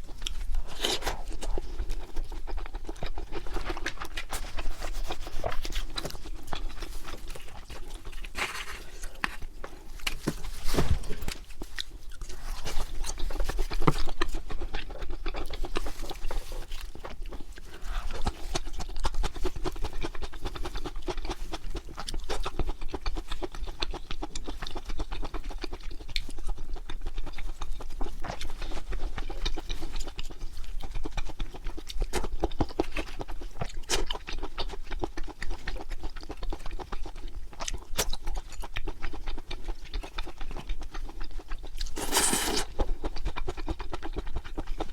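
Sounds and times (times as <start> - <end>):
wet chewing: 0.0 - 44.9.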